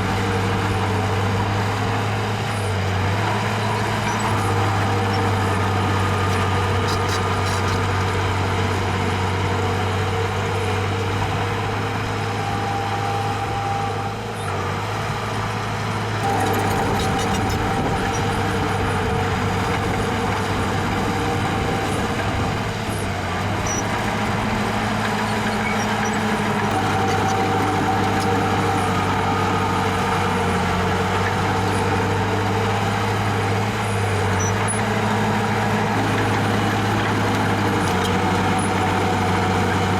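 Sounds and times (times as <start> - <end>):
earthmoving machine diesel engine: 0.0 - 39.9.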